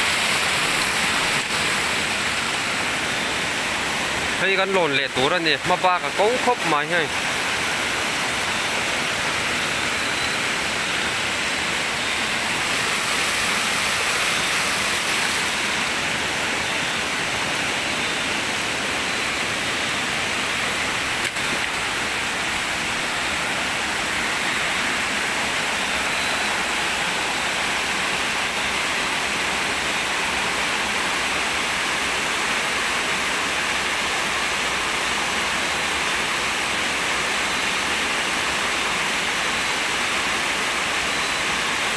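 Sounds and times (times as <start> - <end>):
stream water rushing and splashing: 0.0 - 41.9.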